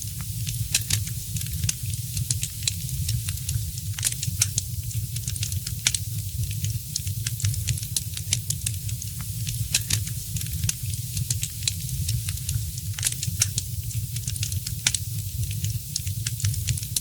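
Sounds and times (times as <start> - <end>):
wood fire crackling and popping: 0.1 - 17.0.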